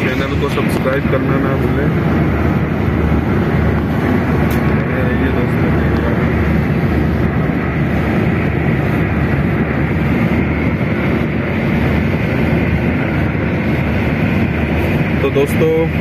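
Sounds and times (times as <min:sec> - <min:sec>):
car engine and road noise: 0:00.0 - 0:16.0
wind on microphone: 0:00.0 - 0:16.0.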